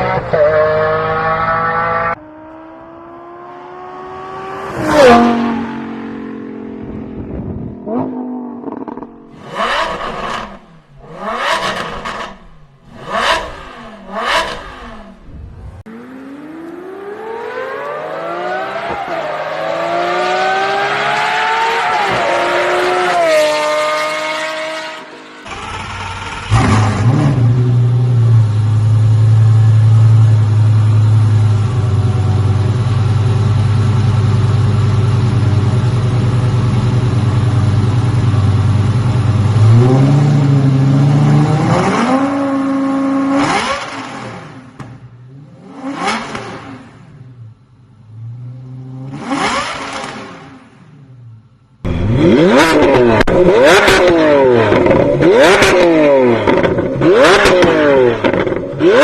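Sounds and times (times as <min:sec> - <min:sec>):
supercar engine revving: 0:00.0 - 0:47.5, 0:51.8 - 0:59.0.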